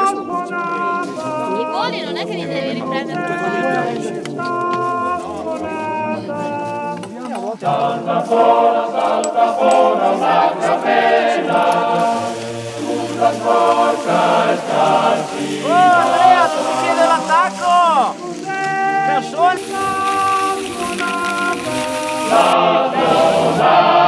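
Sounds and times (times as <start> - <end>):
choir singing in harmony: 0.0 - 24.0.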